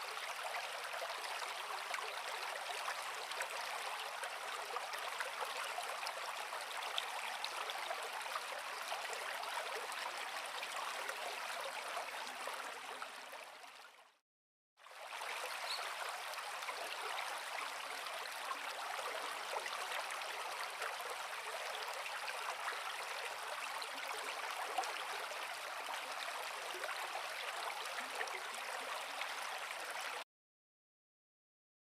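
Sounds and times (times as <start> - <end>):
creek flowing over rocks: 0.0 - 14.0, 14.8 - 30.2.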